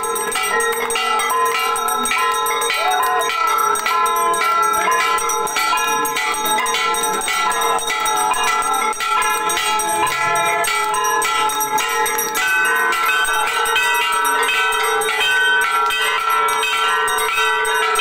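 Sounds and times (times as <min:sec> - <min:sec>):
temple bells ringing: 0:00.0 - 0:18.0.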